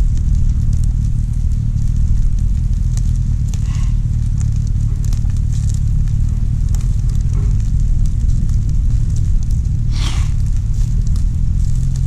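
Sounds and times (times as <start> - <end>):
campfire crackling and popping: 0.0 - 12.0
low rumble: 0.0 - 12.0.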